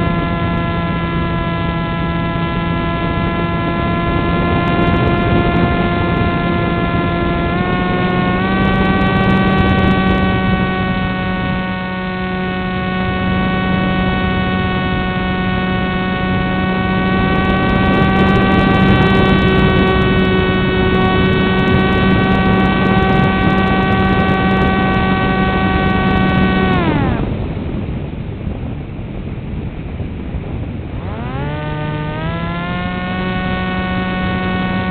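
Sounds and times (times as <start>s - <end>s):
electric motor and propeller whine: 0.0s - 28.3s, 29.6s - 34.9s.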